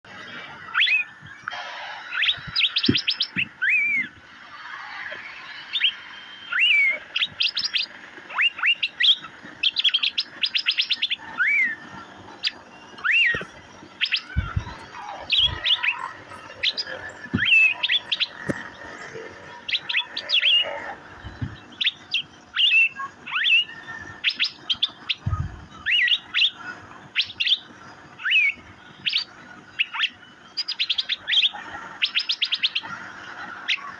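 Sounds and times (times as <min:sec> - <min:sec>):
bird whistling: 0:00.2 - 0:32.9
rapid bird chips: 0:00.2 - 0:33.9.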